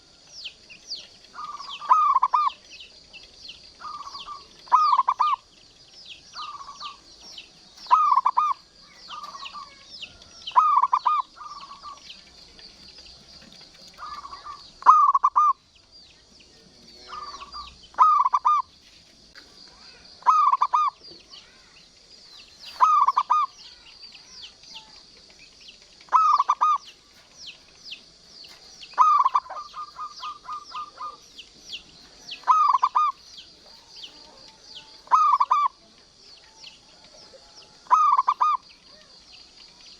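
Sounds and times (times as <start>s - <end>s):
faint high chirping: 0.0s - 39.9s
dove cooing: 1.0s - 15.8s, 16.6s - 39.8s.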